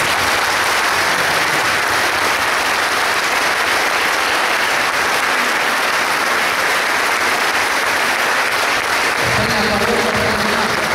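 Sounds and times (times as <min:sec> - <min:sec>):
crowd applauding: 0:00.0 - 0:10.9.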